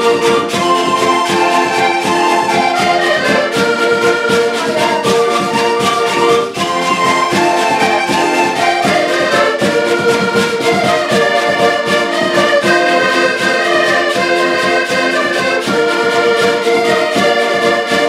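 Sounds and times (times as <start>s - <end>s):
accordions playing a tune: 0.0s - 18.0s.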